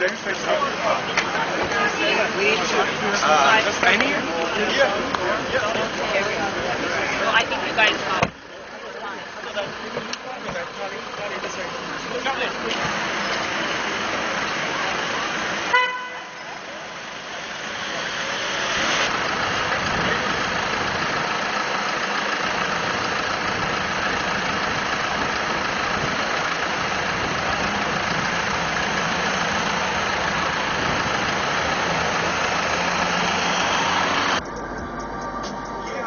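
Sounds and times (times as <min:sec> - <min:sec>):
car engines in street traffic: 0:00.0 - 0:36.0.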